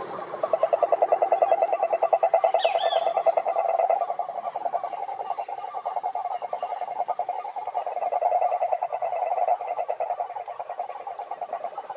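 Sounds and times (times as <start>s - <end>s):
bird chirp: 0.4s - 11.9s
toad trilling: 0.4s - 11.9s.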